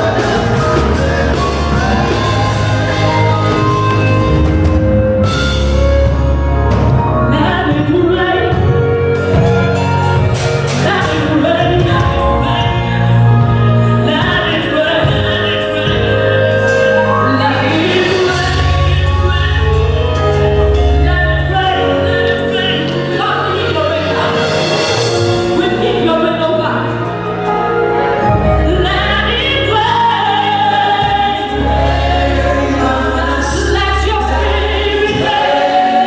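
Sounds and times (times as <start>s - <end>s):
person singing: 0.0s - 5.8s, 7.2s - 36.0s
instrumental backing: 0.0s - 36.0s
long held bass notes: 0.0s - 36.0s.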